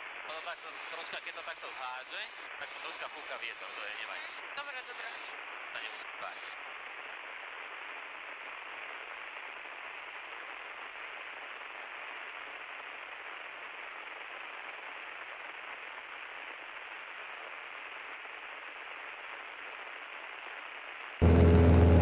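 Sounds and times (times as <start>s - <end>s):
intercom static hiss: 0.0s - 18.0s.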